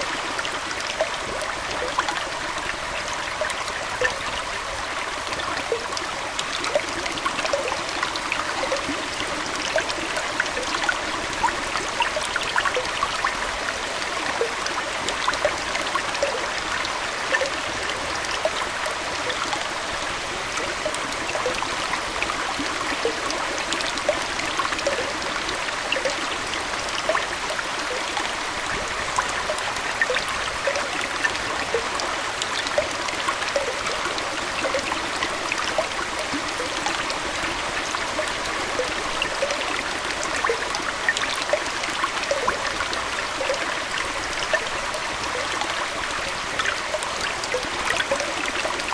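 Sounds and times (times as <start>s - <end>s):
aquarium water trickling: 0.0s - 48.9s
bubbling splashing blips: 5.4s - 48.9s.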